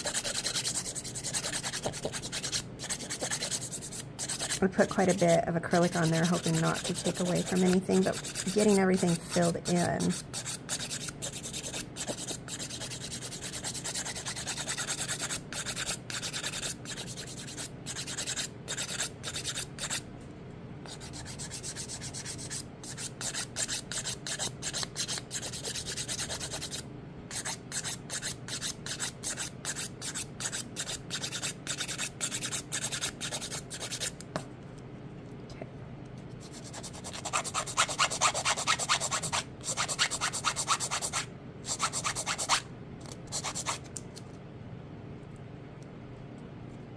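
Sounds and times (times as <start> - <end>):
nail file rasping on acrylic nail: 0.0 - 5.2, 5.8 - 20.1, 20.9 - 34.2, 36.4 - 42.6, 43.3 - 43.9.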